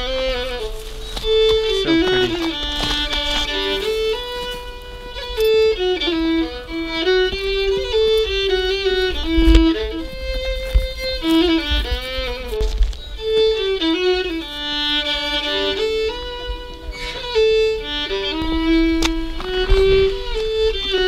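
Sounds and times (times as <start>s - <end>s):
fiddle melody: 0.0s - 21.0s.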